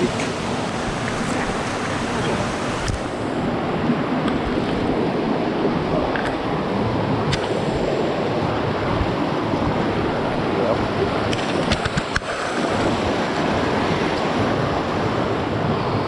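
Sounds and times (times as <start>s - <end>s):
waterfall rushing: 0.0s - 15.7s.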